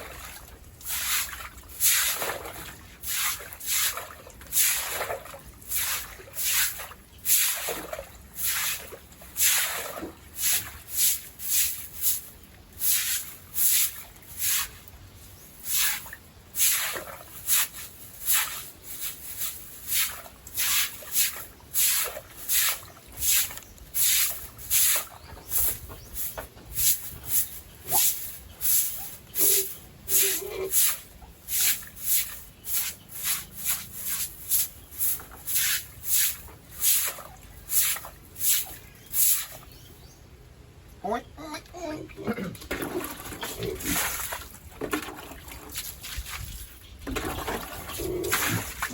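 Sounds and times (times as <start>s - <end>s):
stiff brush scrubbing floor: 0.0s - 39.8s.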